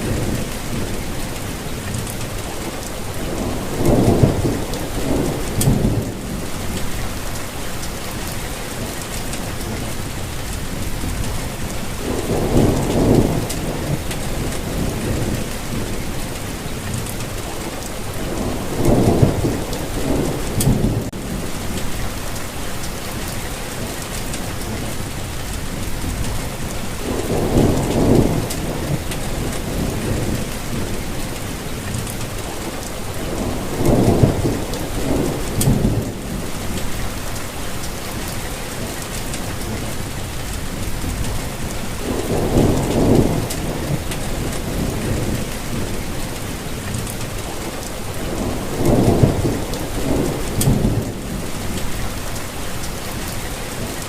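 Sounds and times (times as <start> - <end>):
thunder rumbling: 0.0 - 23.3, 24.5 - 38.3, 39.4 - 54.0
steady rainfall: 0.0 - 54.0.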